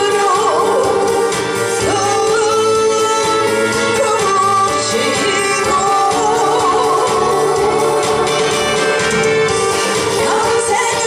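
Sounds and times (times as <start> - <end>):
woman singing into a microphone: 0.0 - 9.2, 9.8 - 11.0
backing track music: 0.0 - 11.0.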